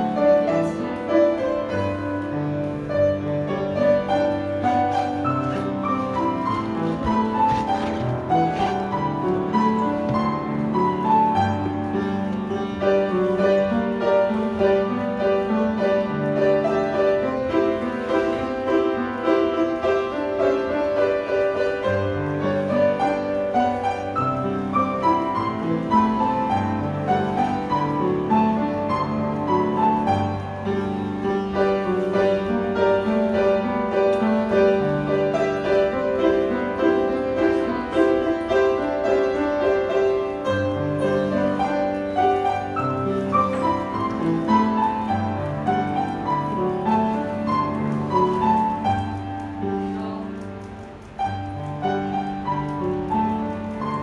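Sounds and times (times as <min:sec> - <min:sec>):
classical piano music: 0:00.0 - 0:54.0.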